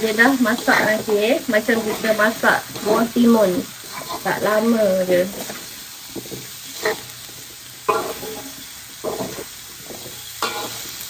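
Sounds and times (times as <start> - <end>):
food sizzling in a pot: 0.0 - 11.0
utensil scraping a pot: 0.0 - 11.0.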